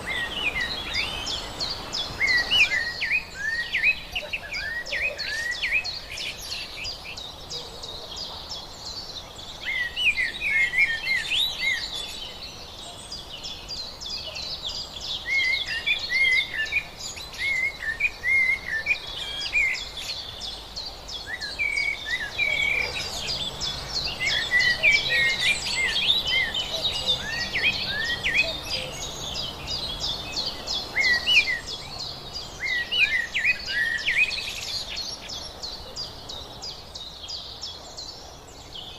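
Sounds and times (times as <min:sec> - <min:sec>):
faint steady hiss: 0:00.0 - 0:38.9
small birds chirping: 0:00.0 - 0:38.9.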